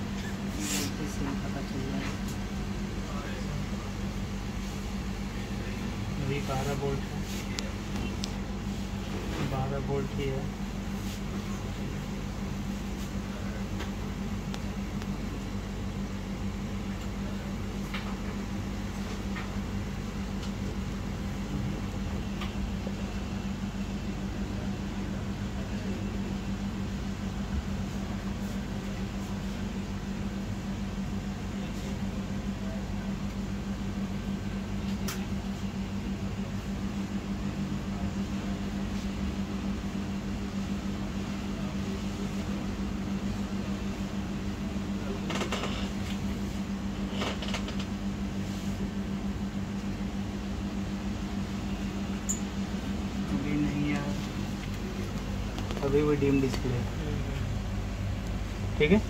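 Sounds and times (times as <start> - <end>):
fan-like machine hum: 0.0 - 59.0.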